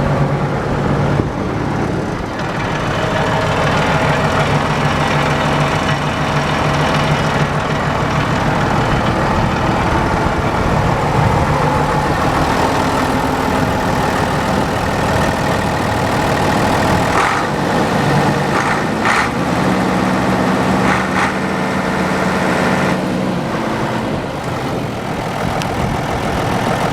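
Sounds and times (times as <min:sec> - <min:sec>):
tractor diesel engine idling: 0:00.0 - 0:26.9.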